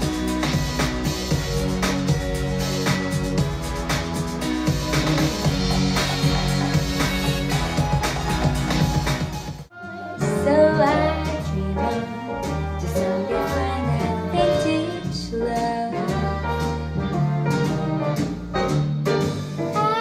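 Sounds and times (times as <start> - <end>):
song with singing voice: 0.0 - 18.0
deep bass line: 0.0 - 20.0.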